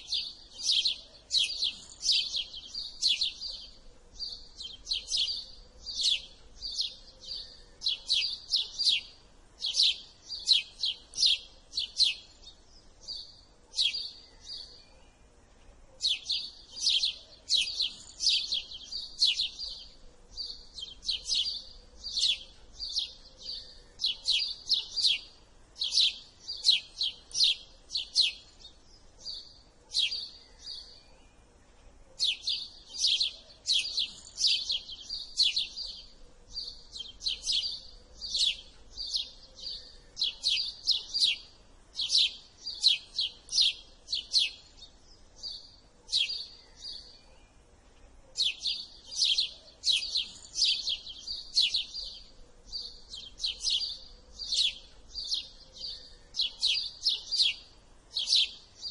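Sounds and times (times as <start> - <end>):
sparrow chirping: 0.0 - 58.9.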